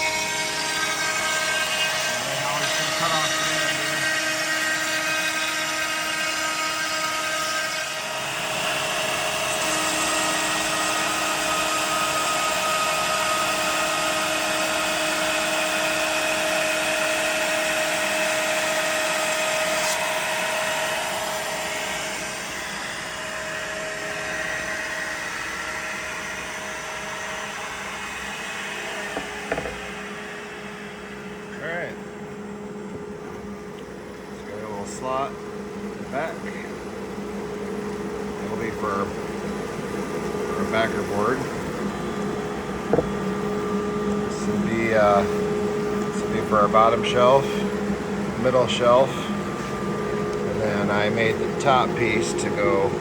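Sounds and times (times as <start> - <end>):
router bit cutting wood: 0.0 - 31.7, 38.4 - 53.0
cnc router spindle whining: 0.0 - 53.0.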